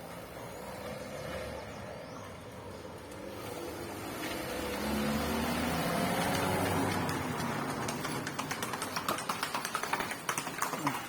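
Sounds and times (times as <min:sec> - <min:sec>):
vehicle engine passing: 0:00.0 - 0:10.6.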